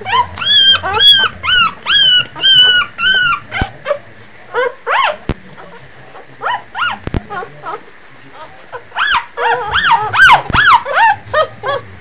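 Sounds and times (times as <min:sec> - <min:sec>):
puppies crying and whimpering: 0:00.0 - 0:12.0.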